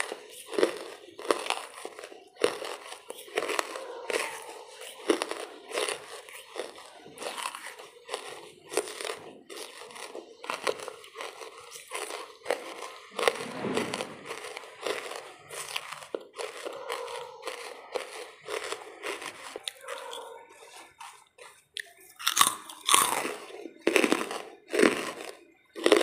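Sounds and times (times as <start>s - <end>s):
charcoal crunching in mouth: 0.0s - 26.0s.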